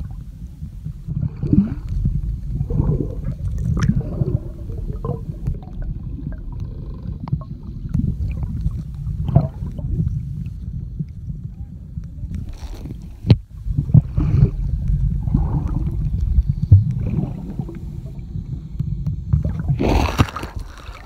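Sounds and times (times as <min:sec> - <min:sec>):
gurgling bubbles: 0:00.0 - 0:21.0
underwater water rumble: 0:00.0 - 0:21.0.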